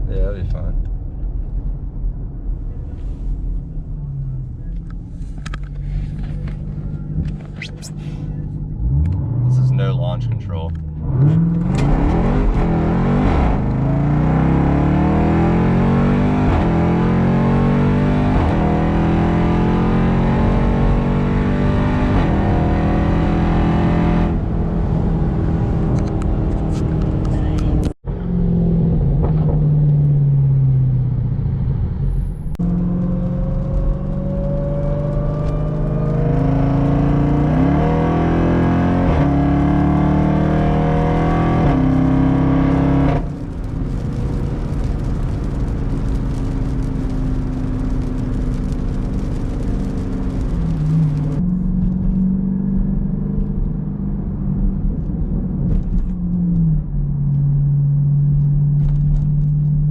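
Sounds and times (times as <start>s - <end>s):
car engine accelerating hard: 3.8s - 59.9s.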